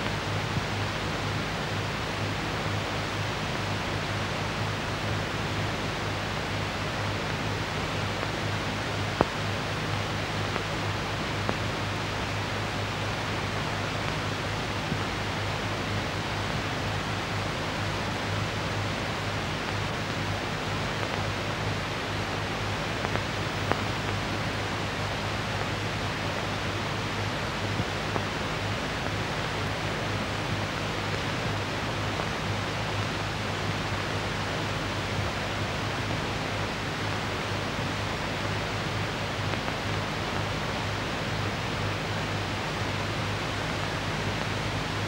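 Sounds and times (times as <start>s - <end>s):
low electrical hum: 0.0s - 45.0s
steady hiss: 0.0s - 45.0s.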